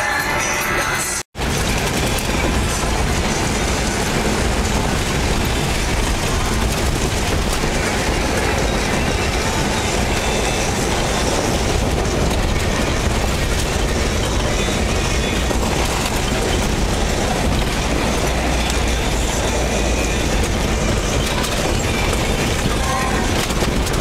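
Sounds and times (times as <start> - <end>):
fast dense rattle: 1.4 - 24.0.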